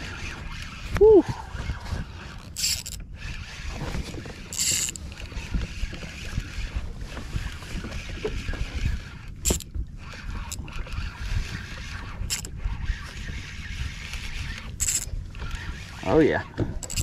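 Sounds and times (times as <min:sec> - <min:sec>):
fishing reel cranking: 0:00.0 - 0:17.0
wind buffeting microphone: 0:00.0 - 0:17.0.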